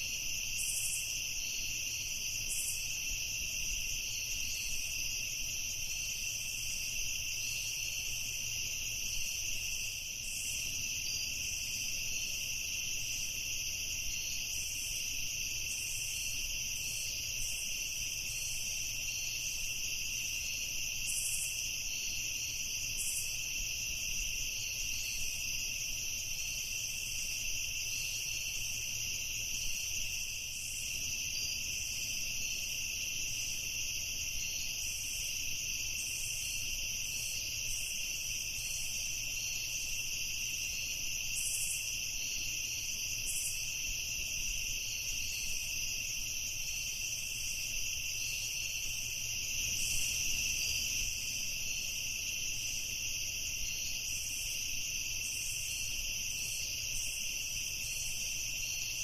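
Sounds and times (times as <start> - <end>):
crickets trilling: 0.0 - 59.0
high insect chirps: 0.0 - 59.0.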